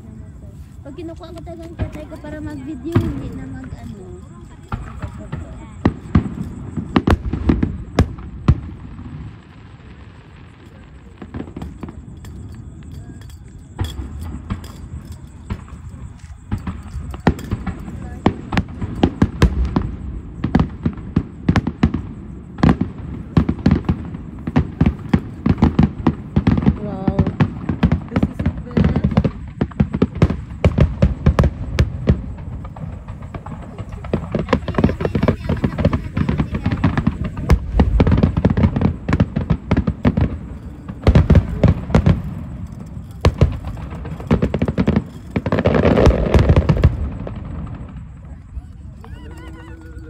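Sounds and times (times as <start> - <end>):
firework shells bursting: 0.8 - 50.0.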